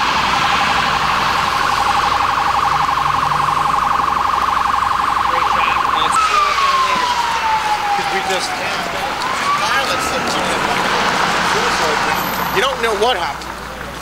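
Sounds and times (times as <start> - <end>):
police siren: 0.0 - 13.3.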